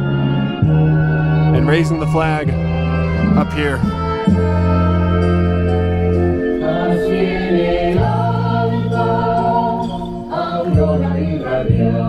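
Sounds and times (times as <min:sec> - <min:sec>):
choir singing over loudspeaker: 0:00.0 - 0:12.0.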